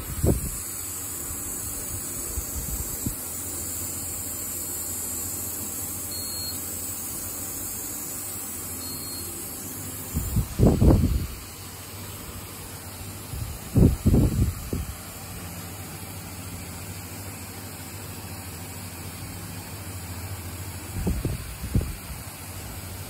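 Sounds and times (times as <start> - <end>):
wheel balancer spinning hum: 0.0 - 23.0.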